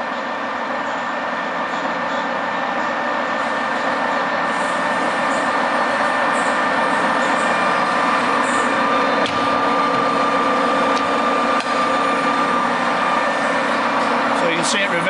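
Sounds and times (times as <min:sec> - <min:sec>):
lathe running with gear whine: 0:00.0 - 0:15.0.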